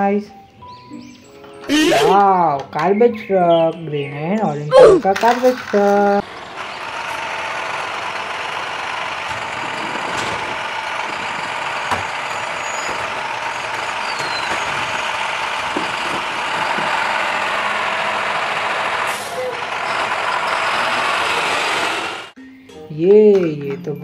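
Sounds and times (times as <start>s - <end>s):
garbage truck engine droning: 0.3s - 22.4s.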